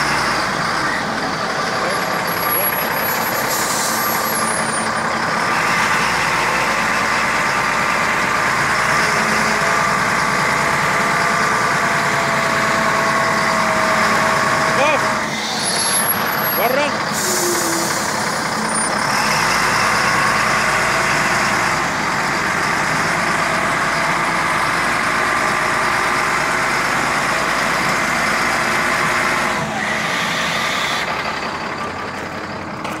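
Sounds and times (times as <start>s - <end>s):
wheel loader diesel engine running: 0.0s - 33.0s.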